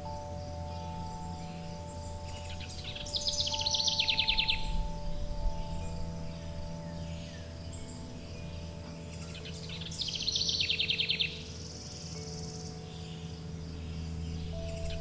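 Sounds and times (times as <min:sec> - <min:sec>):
low steady hum: 0:00.0 - 0:15.0
songbird trilling: 0:00.0 - 0:15.0
wind chime tones: 0:00.0 - 0:15.0.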